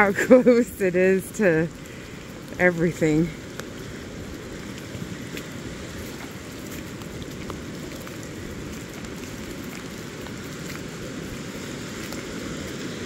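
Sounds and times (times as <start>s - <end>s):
falling rain: 0.0s - 13.0s
flooded river rushing: 0.0s - 13.0s
raindrop ticks: 0.0s - 13.0s.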